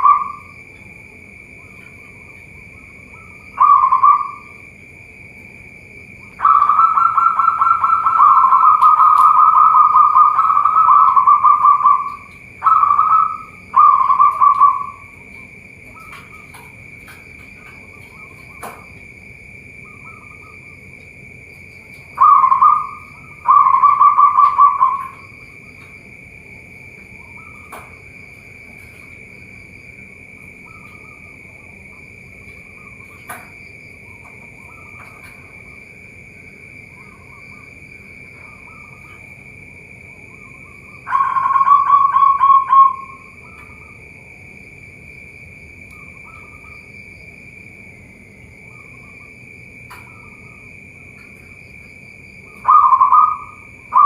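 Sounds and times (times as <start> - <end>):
doves cooing: 0.0 - 44.3, 48.6 - 54.0
high-pitched whine: 0.0 - 54.0.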